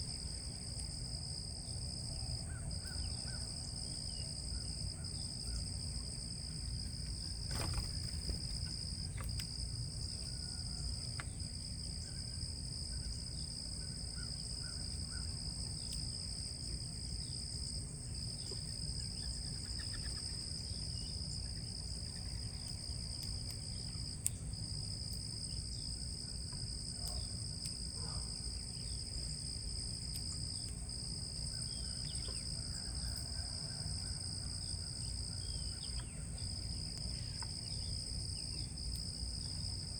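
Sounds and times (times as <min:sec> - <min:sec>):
insect chorus trilling: 0:02.0 - 0:39.9.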